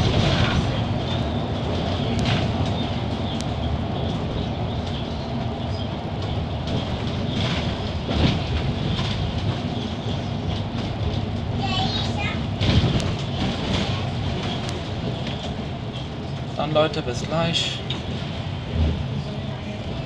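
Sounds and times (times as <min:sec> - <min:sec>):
bus engine and tyres rumbling: 0:00.0 - 0:20.0.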